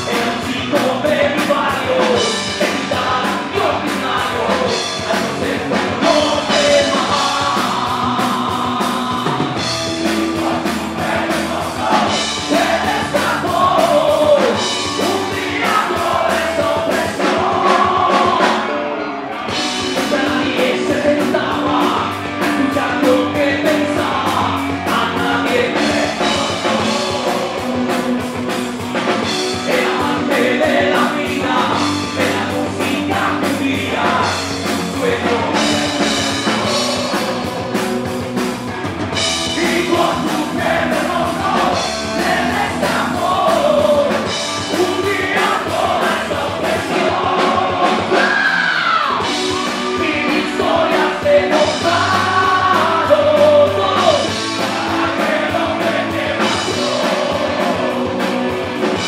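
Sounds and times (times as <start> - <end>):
man singing: 0.0 - 38.4, 39.1 - 59.0
live rock band playing: 0.0 - 59.0.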